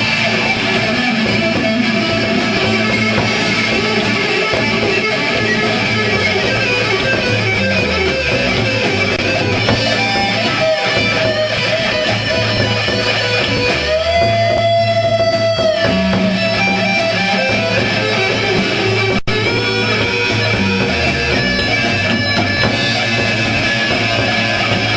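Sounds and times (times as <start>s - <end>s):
rock band playing live: 0.0s - 24.9s.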